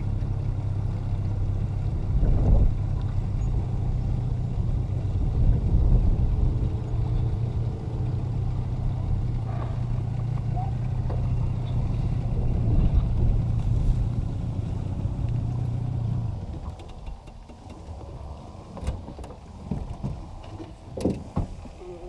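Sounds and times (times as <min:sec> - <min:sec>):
engine running steadily: 0:00.0 - 0:22.0
low engine rumble: 0:00.0 - 0:22.0.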